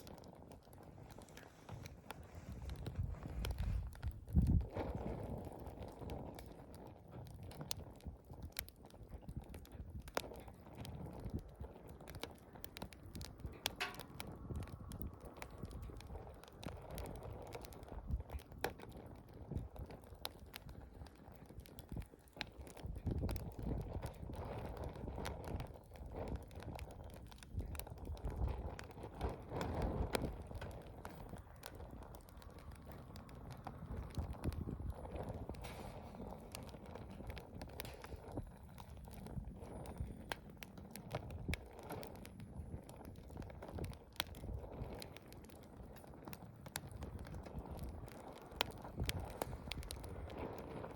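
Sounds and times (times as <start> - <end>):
campfire crackling: 0.0 - 50.9
low rumble of flames: 0.0 - 50.9.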